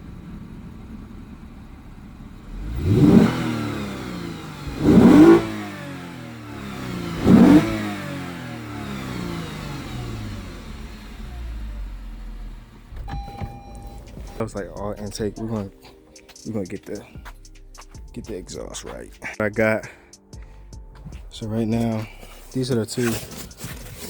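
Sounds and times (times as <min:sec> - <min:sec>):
car engine idling and revving: 0:00.0 - 0:15.9, 0:20.4 - 0:24.0.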